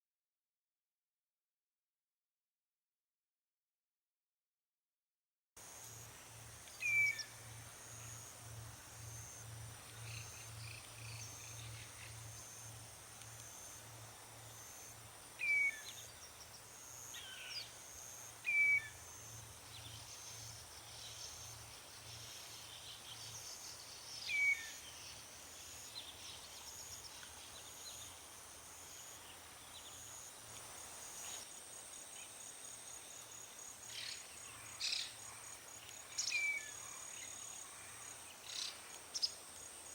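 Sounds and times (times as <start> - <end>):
crickets chirping: 5.6 - 39.9.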